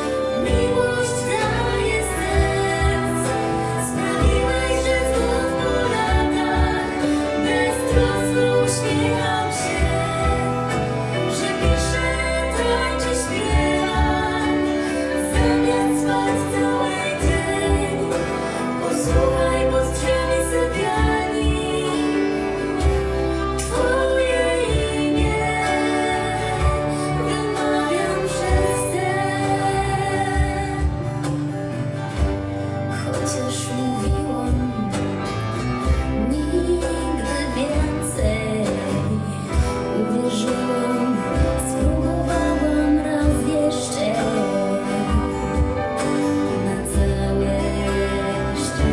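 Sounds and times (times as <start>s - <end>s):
live band playing: 0.0s - 48.9s
person singing: 0.0s - 48.9s.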